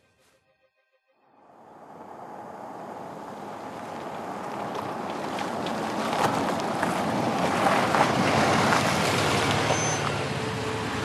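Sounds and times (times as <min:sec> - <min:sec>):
car engine: 0:01.2 - 0:11.0
tyres on dirt track: 0:01.3 - 0:11.0.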